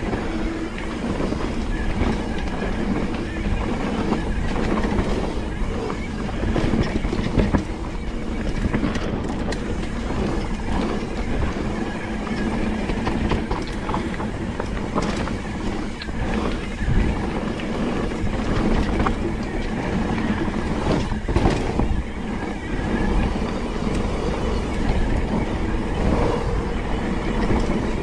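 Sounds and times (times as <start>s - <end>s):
bike rattling over rough ground: 0.0s - 28.0s.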